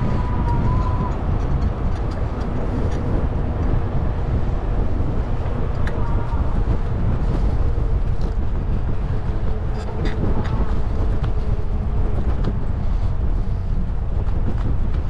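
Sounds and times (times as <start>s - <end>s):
road and tyre noise: 0.0s - 15.0s
wind buffeting microphone: 0.0s - 15.0s.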